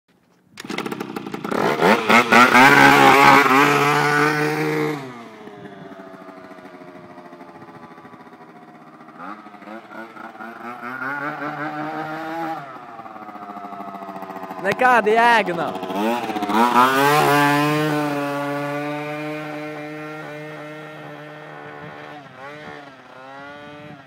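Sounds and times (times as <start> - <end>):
two-stroke scooter revving: 0.6 - 24.0.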